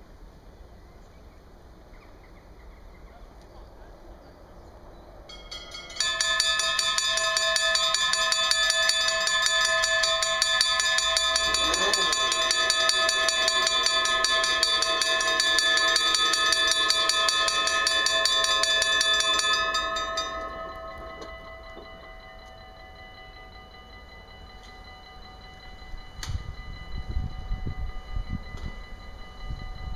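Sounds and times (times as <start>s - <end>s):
level crossing bells clanging: 5.3s - 29.9s.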